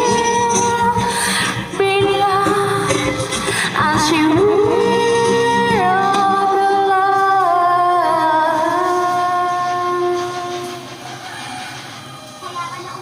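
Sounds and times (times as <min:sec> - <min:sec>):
woman singing into a microphone: 0:00.0 - 0:10.9.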